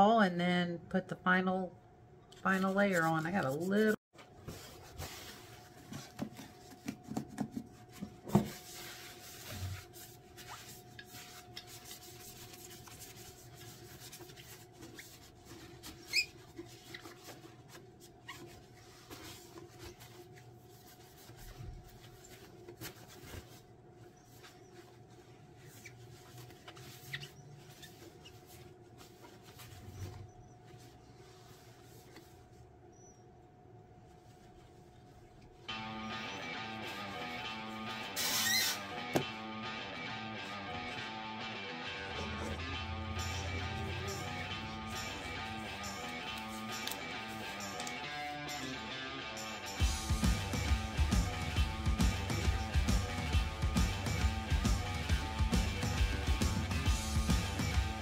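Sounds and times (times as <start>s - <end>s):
paper towel rubbing: 2.5s - 32.6s, 36.1s - 39.0s, 41.9s - 48.1s, 49.8s - 58.0s.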